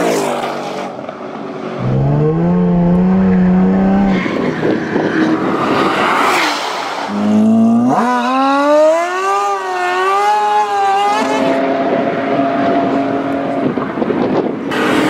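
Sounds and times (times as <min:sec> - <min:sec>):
noisy rush on wet road: 0:00.0 - 0:08.8, 0:10.8 - 0:15.0
car engines revving hard: 0:01.7 - 0:15.0.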